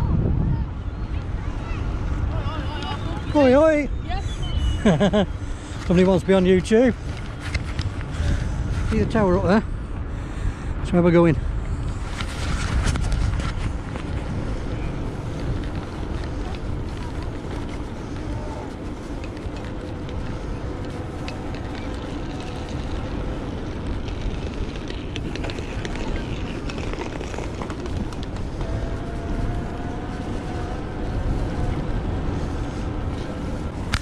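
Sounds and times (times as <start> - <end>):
faint street noise: 0.0 - 34.0
wind buffeting microphone: 0.0 - 34.0.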